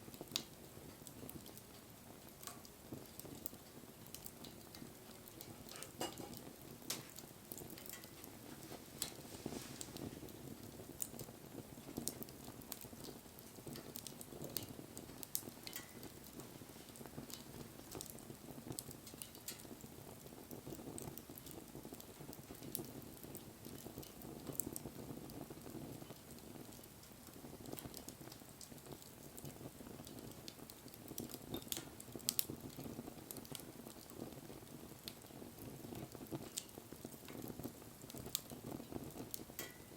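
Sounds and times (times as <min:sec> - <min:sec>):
campfire crackling and popping: 0:00.0 - 0:39.9
flame rushing: 0:02.9 - 0:39.9.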